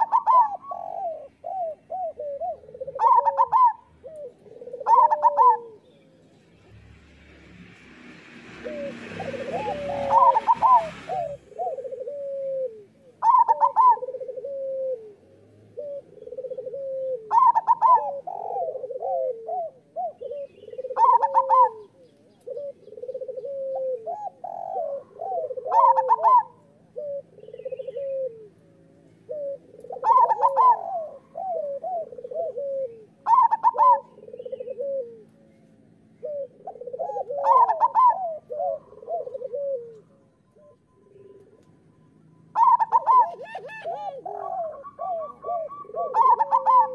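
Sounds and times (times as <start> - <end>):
dove cooing: 0.0 - 6.2, 8.6 - 46.9.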